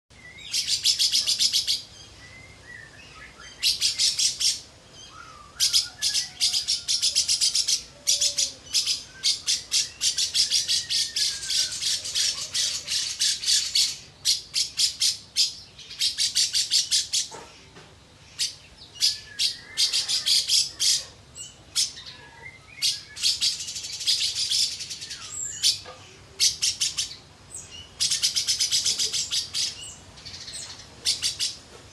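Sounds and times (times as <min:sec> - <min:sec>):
bird chattering trills: 0:03.6 - 0:17.5, 0:18.3 - 0:31.6.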